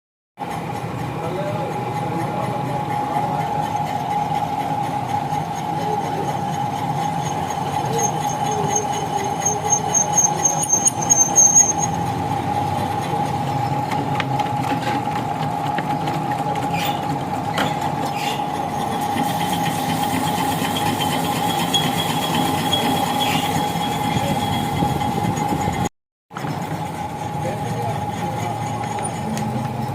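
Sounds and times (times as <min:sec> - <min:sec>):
machine tool cutting steel: 0:00.4 - 0:29.9
cutter squealing on metal: 0:01.8 - 0:13.9, 0:16.6 - 0:26.5, 0:27.1 - 0:29.9.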